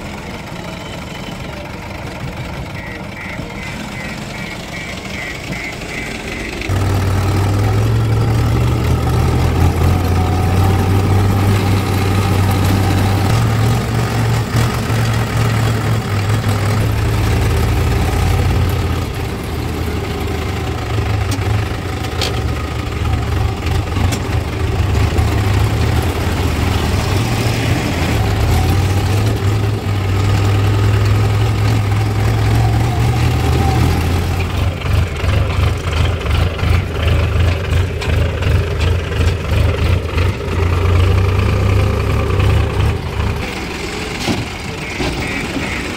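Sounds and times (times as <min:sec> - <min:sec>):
tractor diesel engine droning: 0:00.0 - 0:45.9.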